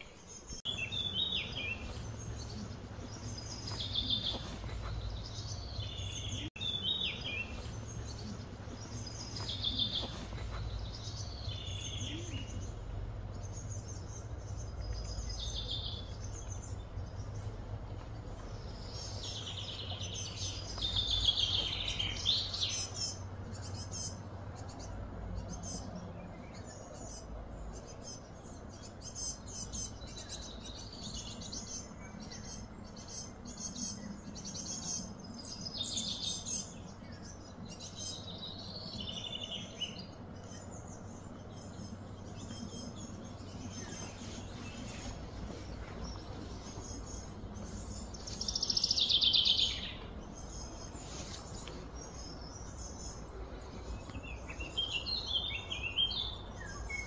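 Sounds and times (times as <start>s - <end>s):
low background hum: 0.0s - 57.0s
small birds chirping: 0.0s - 57.0s.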